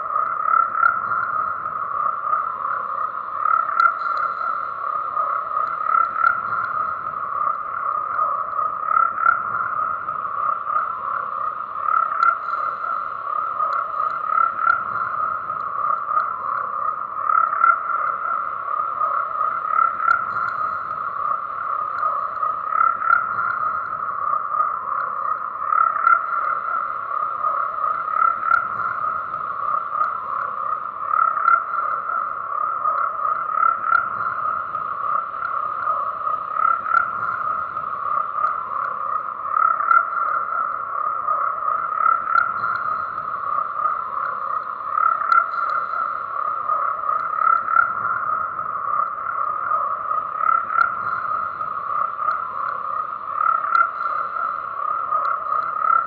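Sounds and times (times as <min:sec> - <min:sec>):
chorus of frogs croaking: 0:00.0 - 0:56.0.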